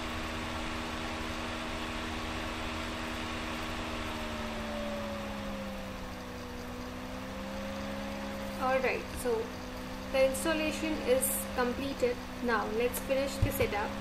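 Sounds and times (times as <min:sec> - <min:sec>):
constant hiss: 0:00.0 - 0:14.0
motor hum: 0:00.0 - 0:14.0.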